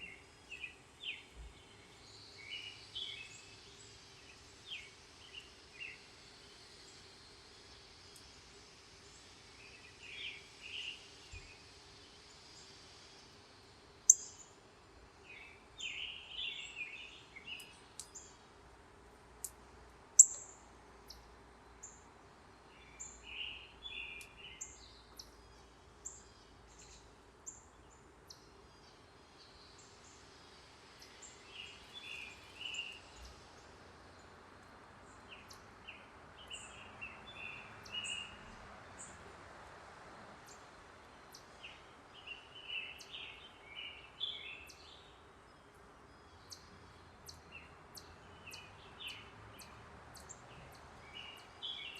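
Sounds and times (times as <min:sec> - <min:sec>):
faint background noise: 0:00.0 - 0:51.9
songbirds chipping: 0:00.0 - 0:51.9.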